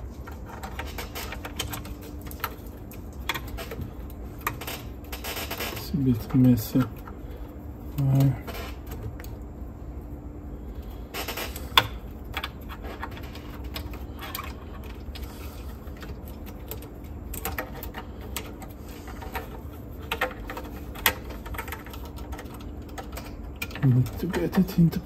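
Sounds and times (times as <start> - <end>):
faint steady hum: 0.0 - 25.0
small parts clicking and tapping: 0.2 - 9.5, 11.1 - 25.0.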